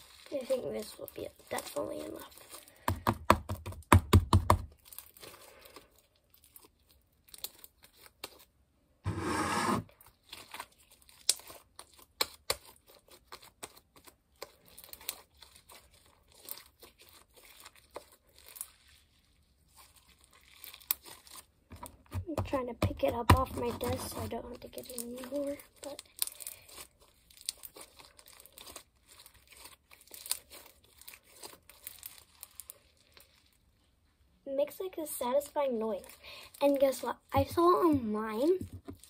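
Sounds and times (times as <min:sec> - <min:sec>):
slime crackling and popping: 0:00.0 - 0:08.5, 0:10.0 - 0:33.8, 0:35.3 - 0:39.0.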